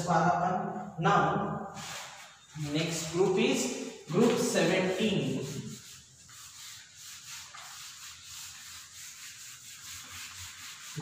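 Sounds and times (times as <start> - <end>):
whiteboard being wiped: 1.7 - 11.0.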